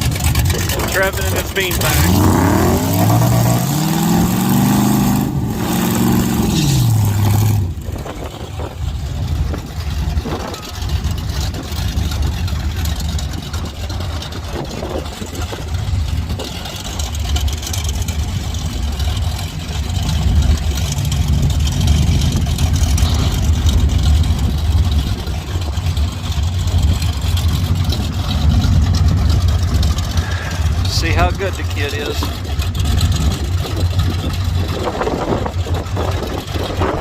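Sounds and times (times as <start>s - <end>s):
vee eight engine rumbling: 0.0s - 37.0s.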